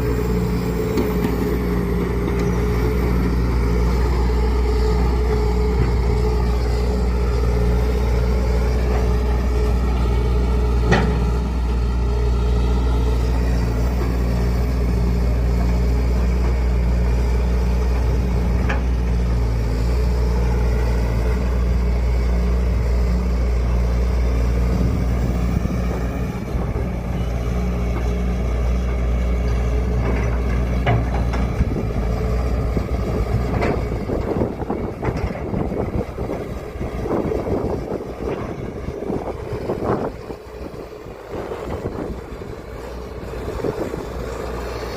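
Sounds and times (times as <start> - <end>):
diesel engine humming: 0.0 - 44.9
rough rumbling noise: 0.0 - 44.9.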